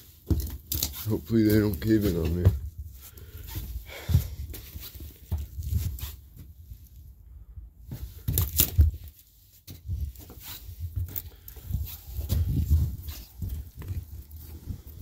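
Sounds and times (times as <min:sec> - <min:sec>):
footsteps on gritty stairs: 0:00.0 - 0:06.6, 0:07.9 - 0:15.0.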